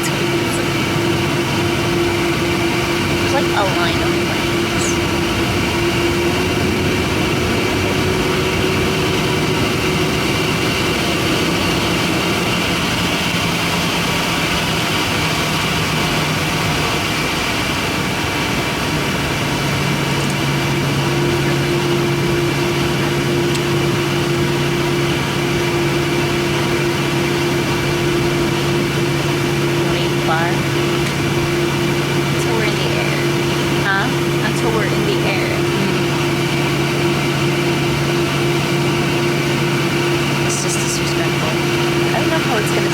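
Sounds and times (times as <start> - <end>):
jet engines idling hum: 0.0 - 42.9.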